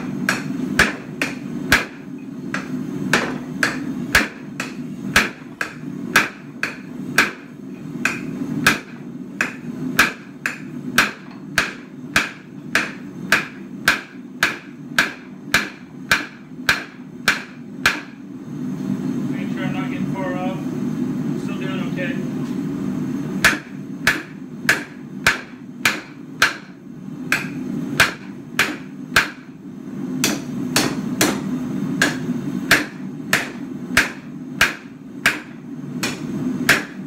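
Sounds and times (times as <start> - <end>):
hammer striking metal on anvil: 0.0 - 18.2, 23.4 - 26.7, 27.3 - 29.5, 30.2 - 37.0.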